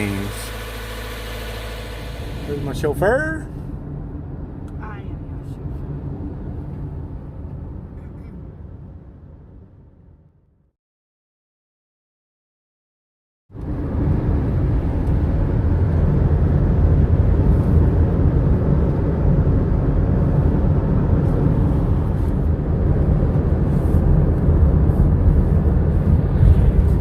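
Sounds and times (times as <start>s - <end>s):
car road and engine rumble: 0.0s - 10.7s, 13.5s - 27.0s.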